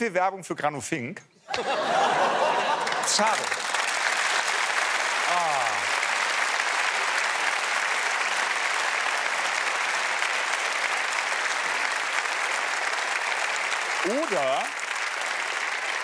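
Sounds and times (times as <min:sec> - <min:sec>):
studio audience applauding: 0:01.6 - 0:16.0.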